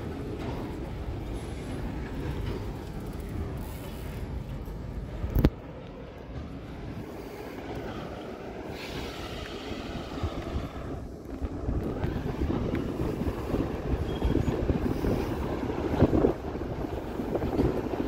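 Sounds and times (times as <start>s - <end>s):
tram rumbling on street rails: 0.0s - 18.0s
wind buffeting microphone: 0.0s - 18.0s.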